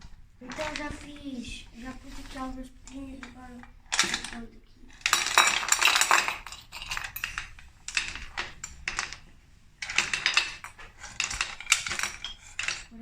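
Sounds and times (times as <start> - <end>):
pebbles clattering into a pot: 0.4 - 13.0.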